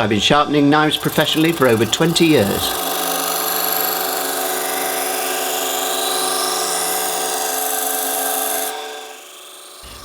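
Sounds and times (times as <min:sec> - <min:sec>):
high grinding hiss: 0:00.0 - 0:10.0
motor hum: 0:00.0 - 0:10.0.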